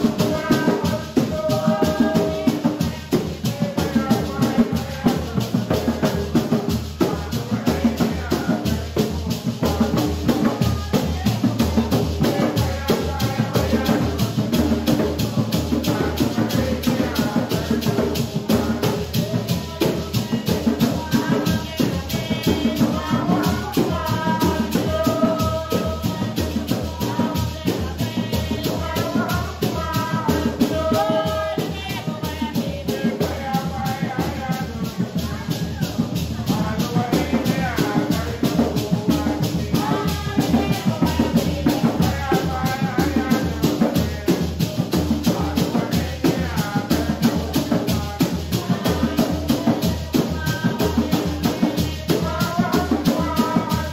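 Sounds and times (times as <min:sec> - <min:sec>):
hand drums playing: 0:00.0 - 0:53.9
voices singing: 0:00.0 - 0:53.9.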